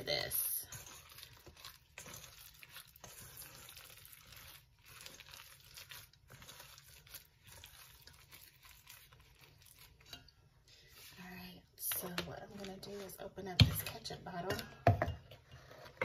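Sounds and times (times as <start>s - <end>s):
plastic gloves crinkling: 0.0s - 14.4s
meat squishing being kneaded: 0.0s - 16.0s.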